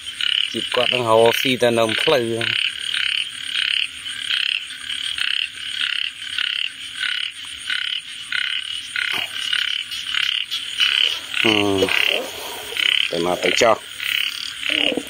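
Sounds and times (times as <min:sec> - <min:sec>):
frog croaking: 0:00.0 - 0:15.0.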